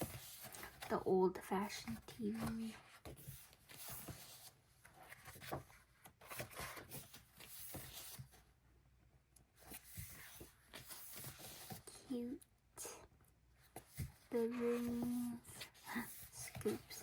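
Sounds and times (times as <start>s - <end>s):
paper rustling: 0.0s - 8.4s, 9.6s - 12.0s, 13.7s - 17.0s.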